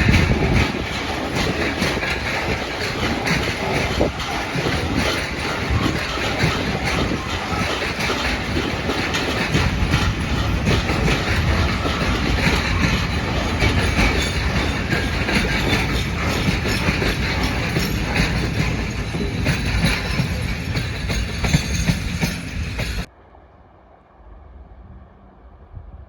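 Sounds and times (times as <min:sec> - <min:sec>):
train wheels clattering over joints: 0:00.0 - 0:23.1.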